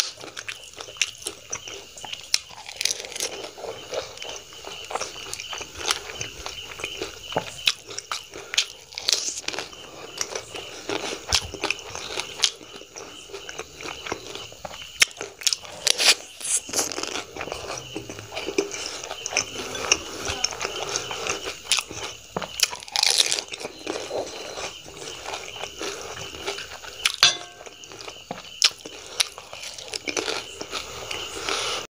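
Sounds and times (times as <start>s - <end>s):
crunching and chewing: 0.0s - 31.9s.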